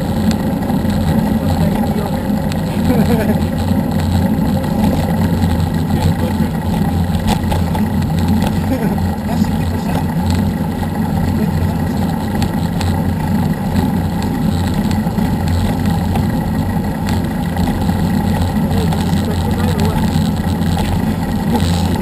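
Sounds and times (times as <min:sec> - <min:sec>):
low engine hum: 0:00.0 - 0:22.0
road and wind noise: 0:00.0 - 0:22.0.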